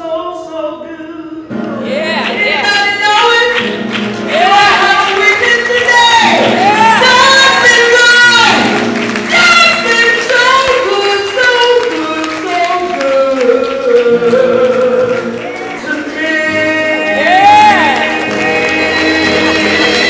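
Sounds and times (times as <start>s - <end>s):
woman singing gospel song: 0.0s - 20.0s
upright piano accompaniment: 1.4s - 20.0s.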